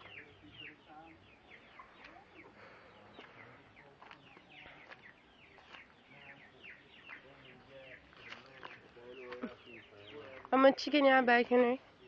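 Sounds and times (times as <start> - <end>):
chickens peeping: 0.0 - 12.0.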